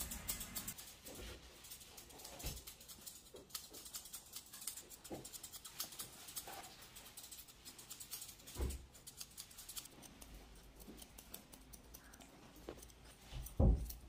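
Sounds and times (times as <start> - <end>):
scissors snipping fur: 0.0 - 14.0.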